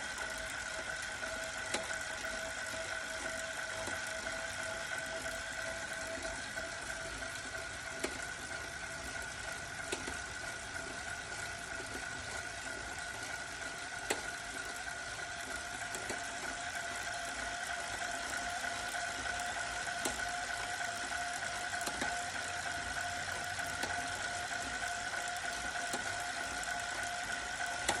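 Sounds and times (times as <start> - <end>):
bike trainer whine: 0.0 - 28.0.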